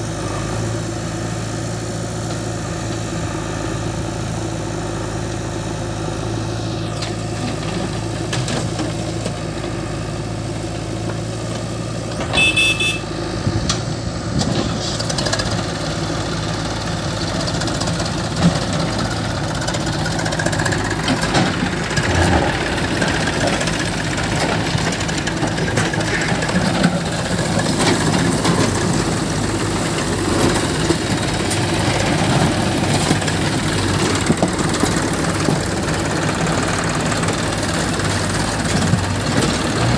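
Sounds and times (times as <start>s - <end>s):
backhoe loader working: 0.0s - 39.9s
tractor diesel engine idling: 0.0s - 39.9s.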